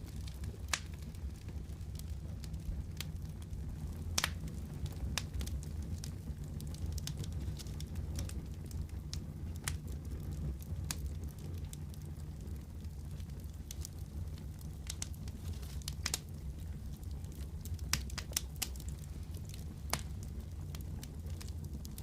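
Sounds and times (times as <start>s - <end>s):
wood fire crackling in a fireplace: 0.0s - 22.0s.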